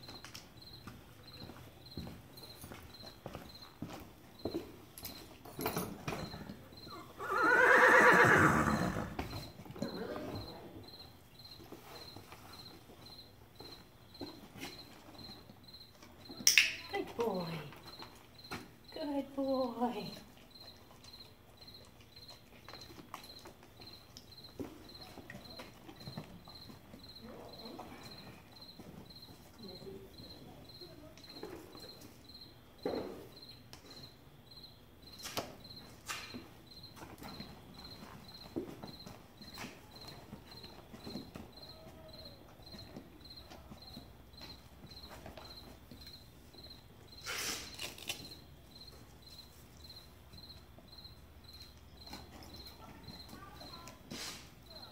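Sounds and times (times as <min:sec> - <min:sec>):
faint knocks of hooves and tack: 0:00.0 - 0:34.2, 0:35.0 - 0:47.2, 0:48.2 - 0:54.9
cricket chirping: 0:00.0 - 0:54.9.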